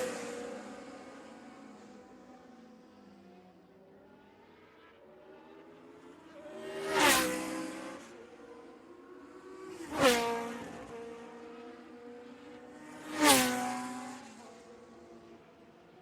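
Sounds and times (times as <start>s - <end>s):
racing cars passing at speed: 0.0s - 3.4s, 4.0s - 15.9s.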